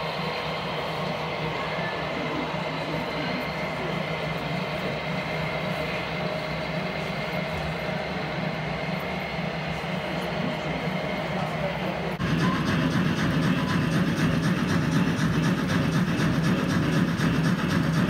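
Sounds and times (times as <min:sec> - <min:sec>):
model locomotive drone: 0:00.0 - 0:18.0.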